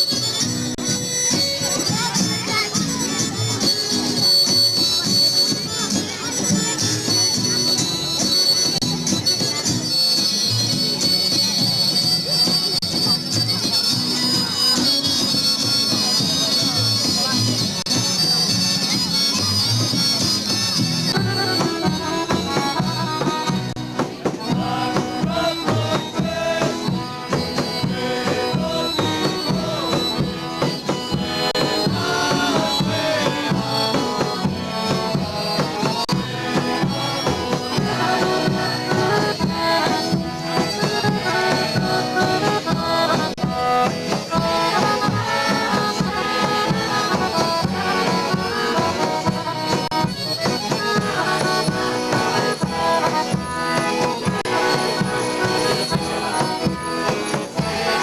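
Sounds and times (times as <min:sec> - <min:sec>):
accordion playing folk dance tune: 0:00.0 - 0:58.0.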